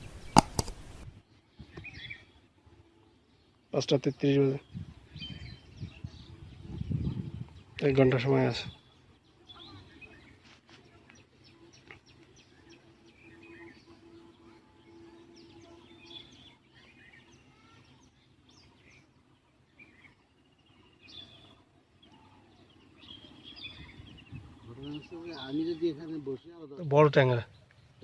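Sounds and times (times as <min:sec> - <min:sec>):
birds chirping and calling: 0:00.0 - 0:28.0
faint low hum: 0:00.0 - 0:28.0.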